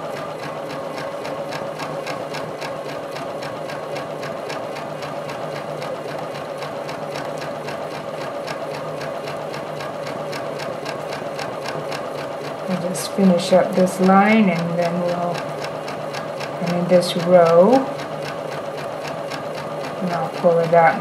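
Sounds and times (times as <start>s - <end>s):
sewing machine stitching: 0.0s - 21.0s.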